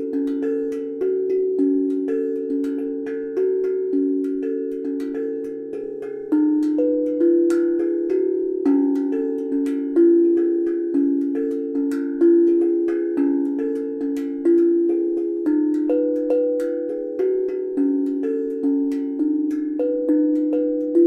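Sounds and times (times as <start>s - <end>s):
steel tongue drum melody: 0.0s - 21.0s.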